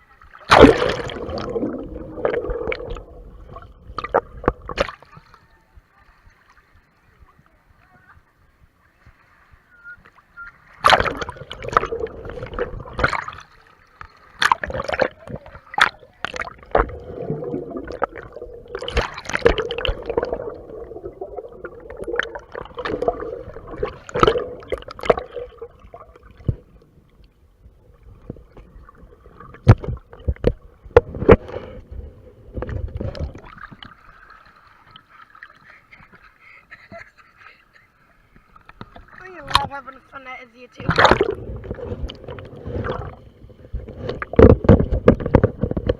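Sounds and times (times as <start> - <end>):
muffled water splashing: 0.0 - 45.9.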